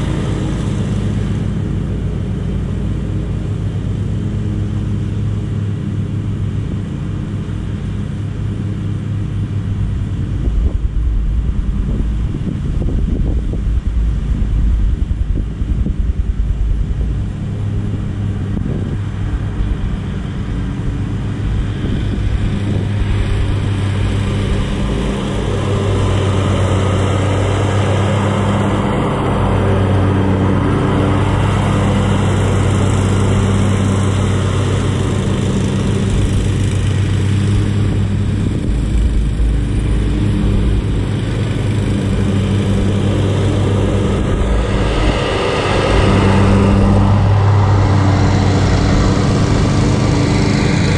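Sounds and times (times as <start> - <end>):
lawn mower engines running: 0.0 - 50.9.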